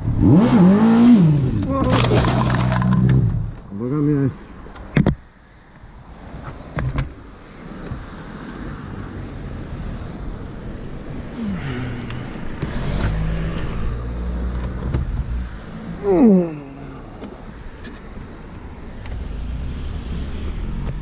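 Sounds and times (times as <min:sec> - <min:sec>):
car engine rumbling: 0:00.0 - 0:05.4, 0:06.7 - 0:21.0.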